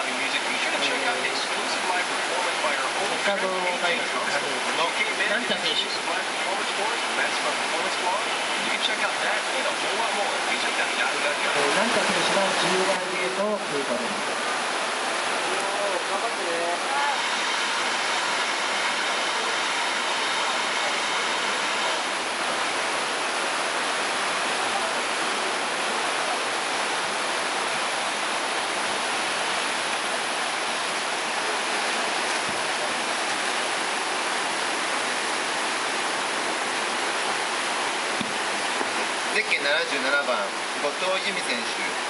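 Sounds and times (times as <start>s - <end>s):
whitewater rapids rushing: 0.0s - 42.0s.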